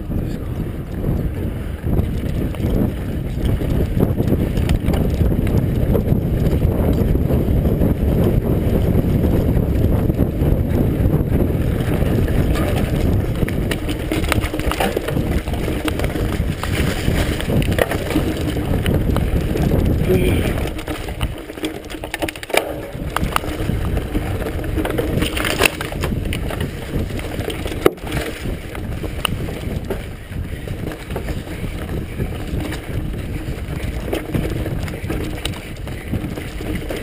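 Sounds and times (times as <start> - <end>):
bike tyres rolling on dirt: 0.0 - 37.0
wind buffeting microphone: 0.0 - 37.0
bike rattling with clicks: 0.2 - 37.0.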